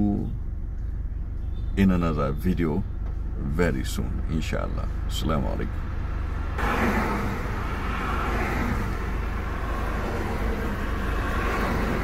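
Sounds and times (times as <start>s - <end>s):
cars going by: 0.0s - 12.0s.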